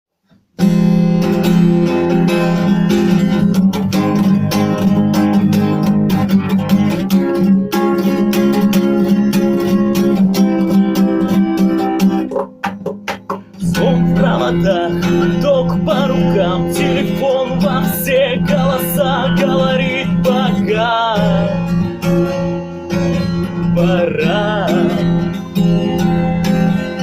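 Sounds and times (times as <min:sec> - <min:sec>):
acoustic guitar strumming: 0:00.3 - 0:27.0.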